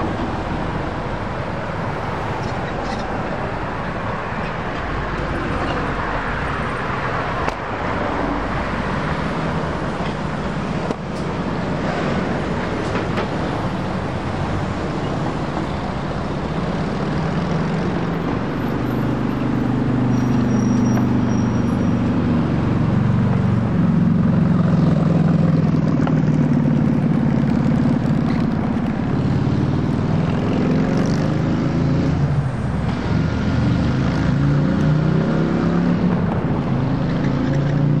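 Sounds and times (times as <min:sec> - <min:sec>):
cars and trucks accelerating: 0:00.0 - 0:38.0.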